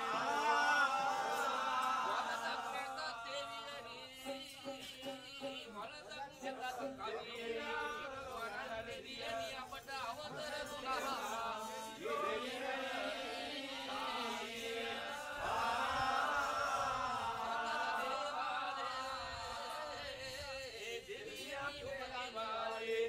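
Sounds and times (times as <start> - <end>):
voices singing melismatic chant: 0.0 - 23.0.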